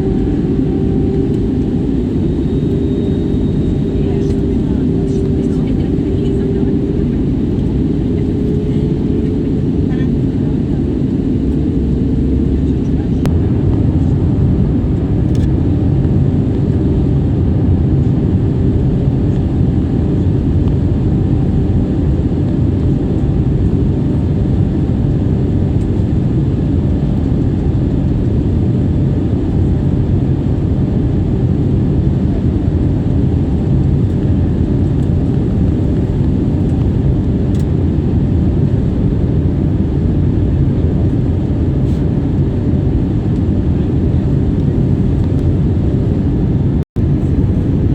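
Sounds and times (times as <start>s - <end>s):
jet airliner drone: 0.0s - 47.9s.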